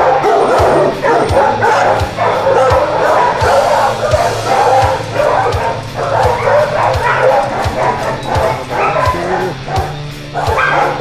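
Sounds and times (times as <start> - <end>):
background music: 0.0 - 11.0
dogs barking and yipping: 0.0 - 11.0.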